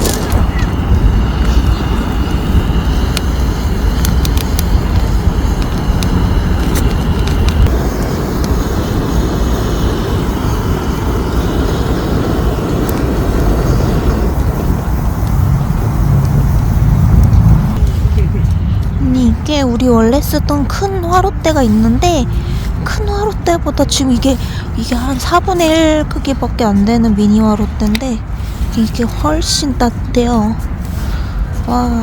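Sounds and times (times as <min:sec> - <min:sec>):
fire crackling: 0:00.0 - 0:32.0
fire rumbling: 0:00.0 - 0:32.0.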